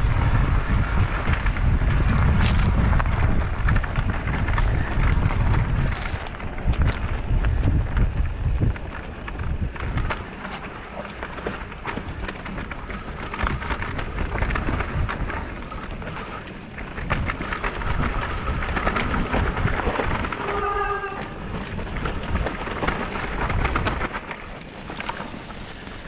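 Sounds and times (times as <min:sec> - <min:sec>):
bike rattles and clicks: 0:00.0 - 0:26.0
bike tyres rolling on dirt: 0:00.0 - 0:26.0
wind rumbling on microphone: 0:00.0 - 0:26.0.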